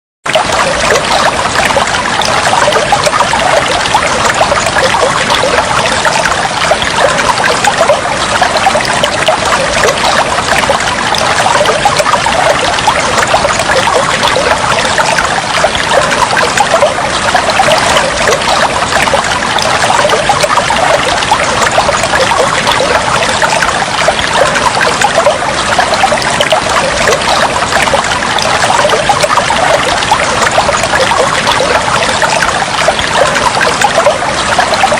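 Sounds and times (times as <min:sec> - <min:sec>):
water trickling: 0:00.2 - 0:34.9.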